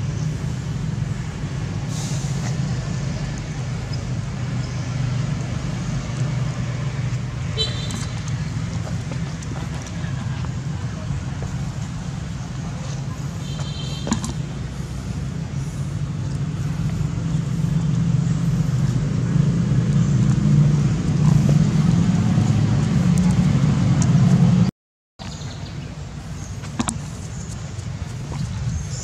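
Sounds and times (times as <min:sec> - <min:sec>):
low engine rumble: 0:00.0 - 0:24.7.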